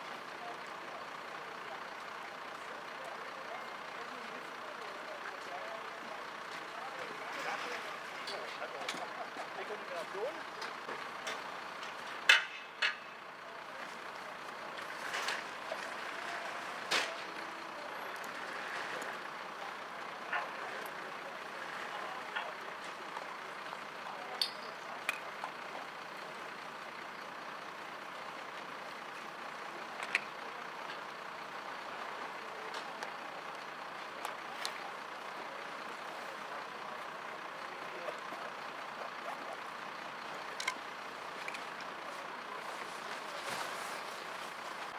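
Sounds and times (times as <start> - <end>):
fire engine idling: 0.0 - 44.9.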